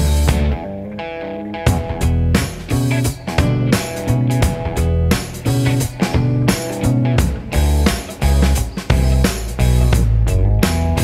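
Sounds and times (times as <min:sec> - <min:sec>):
plucked guitar: 0:00.0 - 0:11.0
drum beat: 0:01.7 - 0:11.0.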